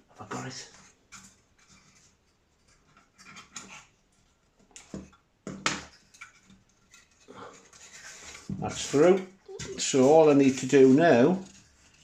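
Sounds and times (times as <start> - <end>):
cable tie scraping and clicking on wood: 0.7 - 5.2, 5.8 - 12.0.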